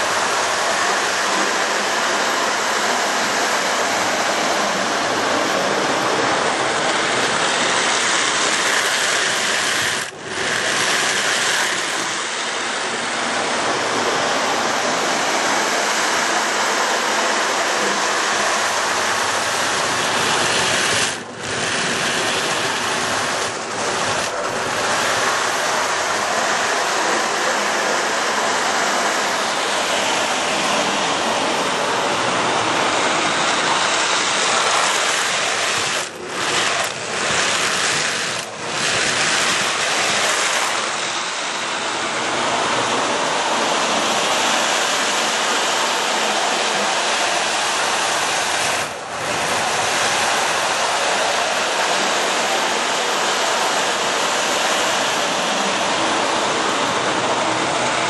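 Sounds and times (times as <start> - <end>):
toy train running on track: 0.0 - 58.0.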